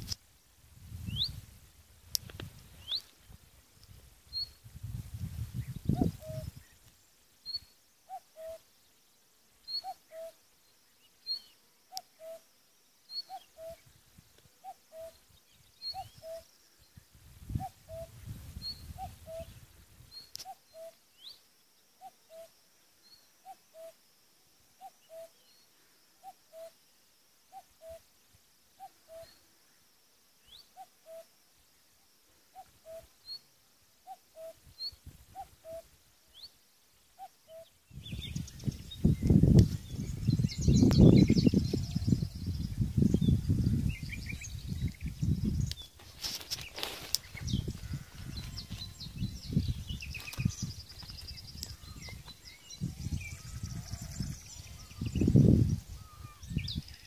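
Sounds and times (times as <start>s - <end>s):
small birds chirping: 2.1s - 24.0s, 28.7s - 57.0s.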